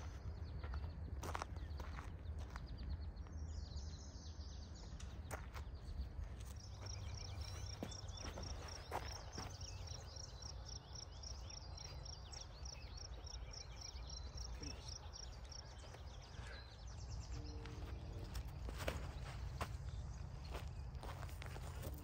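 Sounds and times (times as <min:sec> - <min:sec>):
scattered bird calls: 0:00.0 - 0:22.0.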